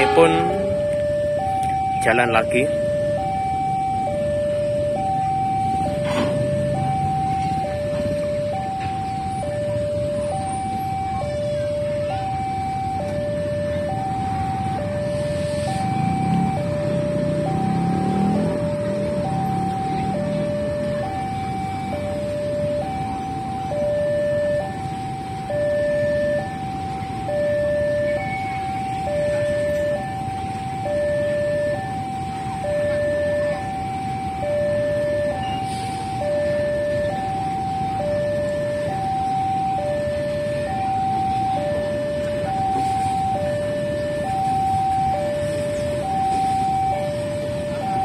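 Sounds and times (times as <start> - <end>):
two-tone crossing alarm: 0.0 - 48.0.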